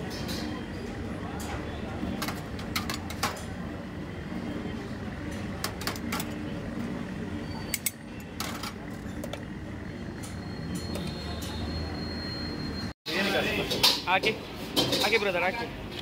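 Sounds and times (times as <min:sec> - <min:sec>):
kitchen hum: 0:00.0 - 0:16.0.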